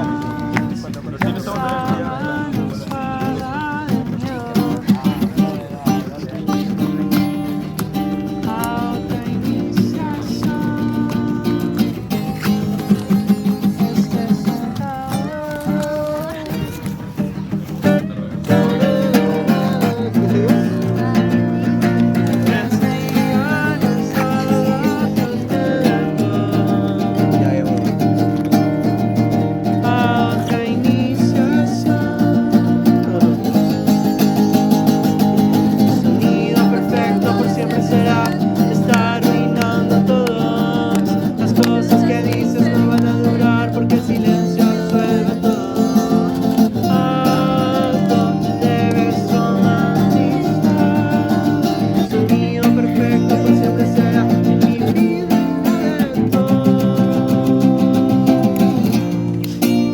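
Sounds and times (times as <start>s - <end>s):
acoustic guitar strumming: 0.0s - 59.9s
person singing: 6.7s - 59.9s.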